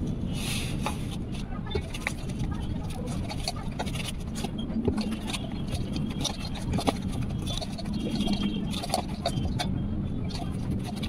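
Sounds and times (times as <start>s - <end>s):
hands kneading dough squelching: 0.0s - 11.0s
steady low rumble: 0.0s - 11.0s.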